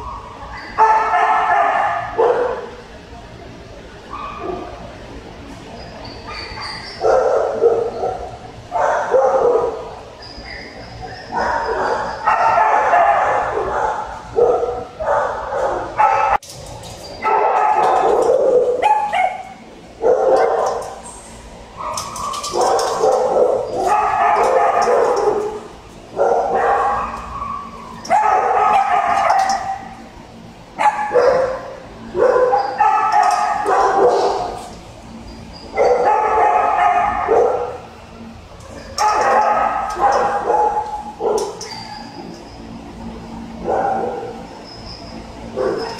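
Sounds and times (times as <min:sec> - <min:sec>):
dogs barking and yipping: 0:00.0 - 0:02.8, 0:04.1 - 0:04.8, 0:05.7 - 0:45.9.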